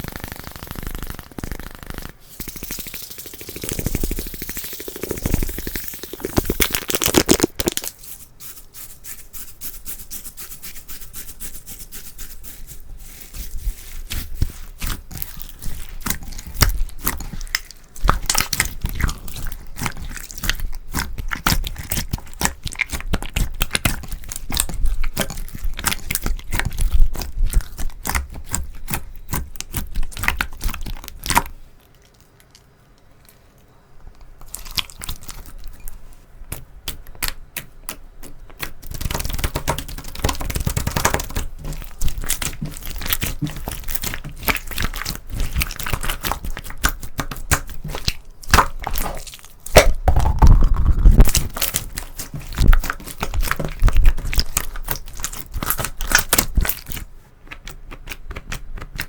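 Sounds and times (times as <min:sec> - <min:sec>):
slime squished by hand crackling: 0:00.0 - 0:08.1, 0:12.5 - 0:31.5, 0:36.5 - 0:59.0.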